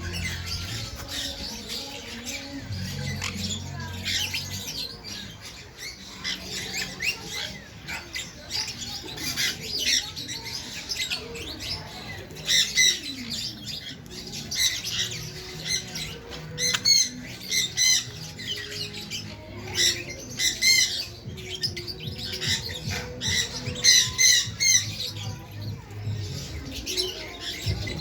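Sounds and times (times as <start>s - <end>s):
birds chirping and squawking: 0.0s - 28.0s.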